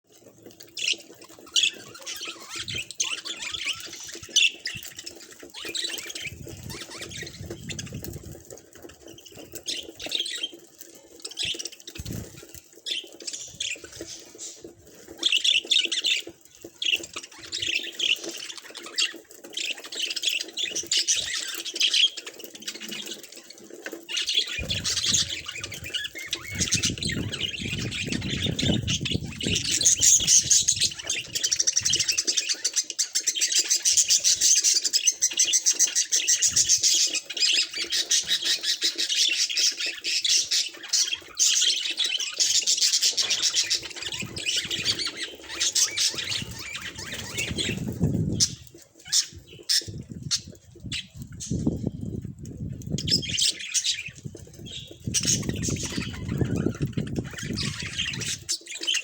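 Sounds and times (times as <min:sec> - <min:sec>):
budgies chirping: 0:00.1 - 0:59.0.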